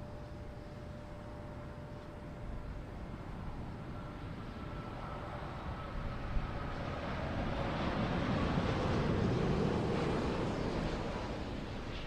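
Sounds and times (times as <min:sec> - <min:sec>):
faint steady whine: 0:00.0 - 0:12.0
jet engine rumble: 0:00.0 - 0:12.0.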